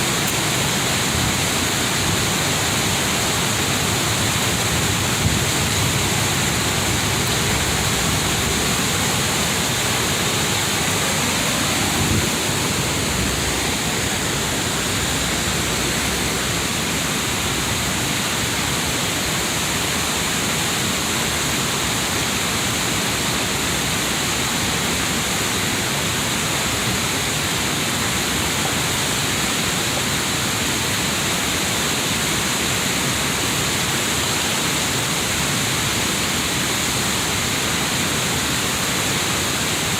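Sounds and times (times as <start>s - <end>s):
water rushing over cascade: 0.0s - 39.9s.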